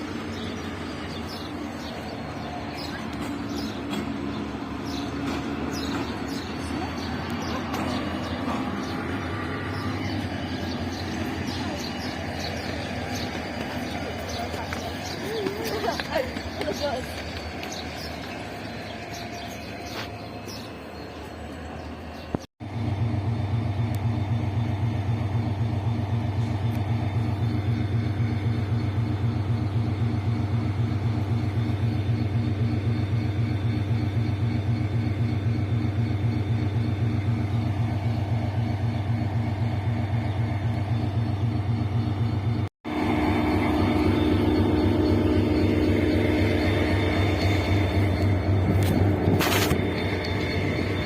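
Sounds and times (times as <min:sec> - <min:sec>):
diesel locomotive engine droning: 0:00.0 - 0:51.0
rail and station noise: 0:00.0 - 0:51.0.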